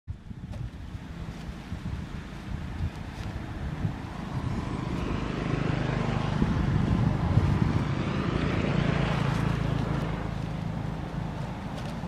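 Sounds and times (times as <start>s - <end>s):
vehicle engine running: 0.2s - 12.0s.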